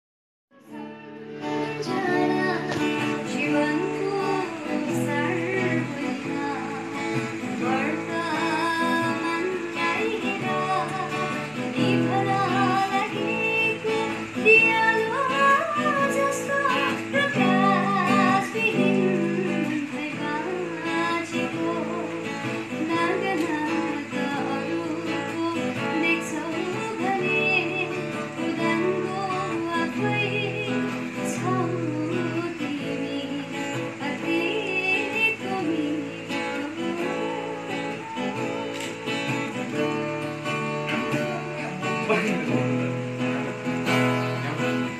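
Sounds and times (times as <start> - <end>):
woman singing: 0.5 - 44.9.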